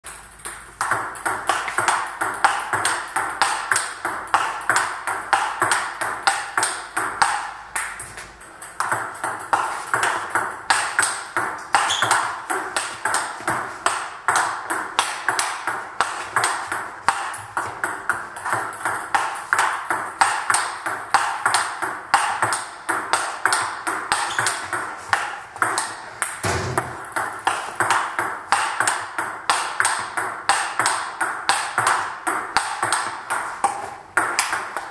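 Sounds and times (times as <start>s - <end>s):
ping pong ball hitting paddles: 0.0s - 34.9s
ping pong ball bouncing on table: 0.1s - 34.9s.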